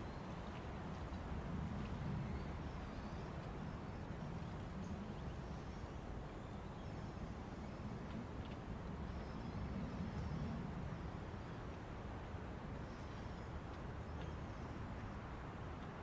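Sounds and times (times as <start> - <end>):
wind through trees: 0.0 - 16.0.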